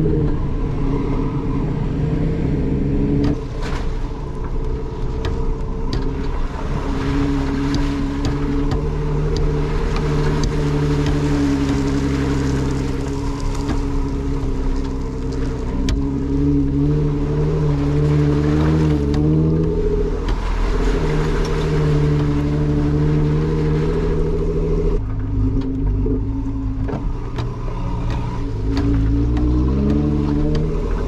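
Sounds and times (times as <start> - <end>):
car engine running: 0.0 - 31.0
tyres rumbling over wet gravel: 0.0 - 31.0.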